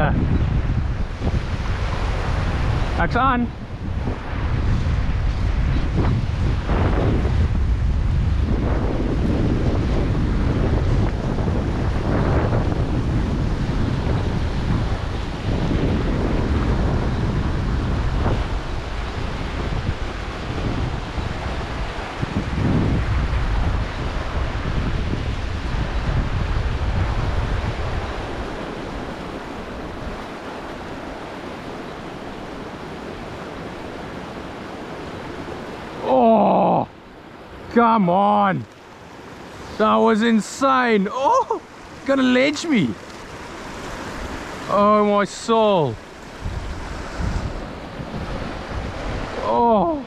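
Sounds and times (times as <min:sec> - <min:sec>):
stream water rushing: 0:00.0 - 0:07.6, 0:08.4 - 0:50.0
wind buffeting microphone: 0:00.0 - 0:50.0.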